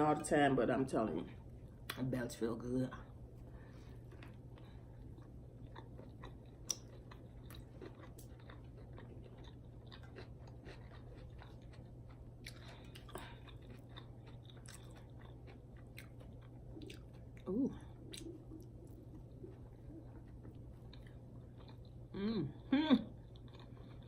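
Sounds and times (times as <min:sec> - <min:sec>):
person chewing food: 0:03.7 - 0:24.0.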